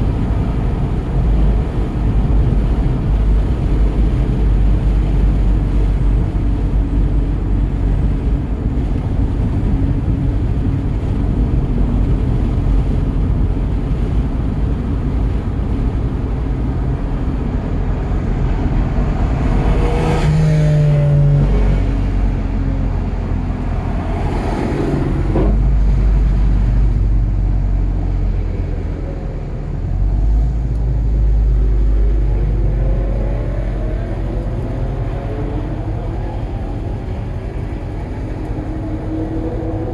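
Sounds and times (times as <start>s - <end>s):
car engine running hard: 0.0s - 39.9s
road and wind noise: 0.0s - 39.9s.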